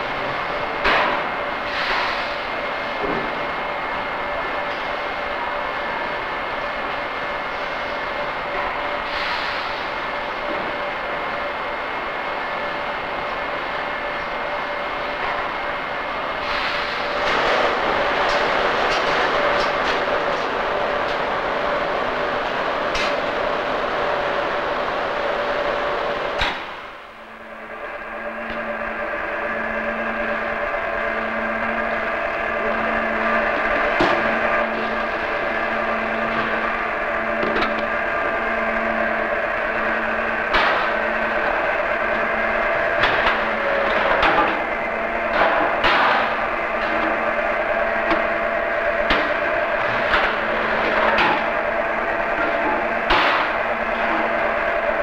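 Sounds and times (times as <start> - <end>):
factory machinery noise: 0.0 - 55.0.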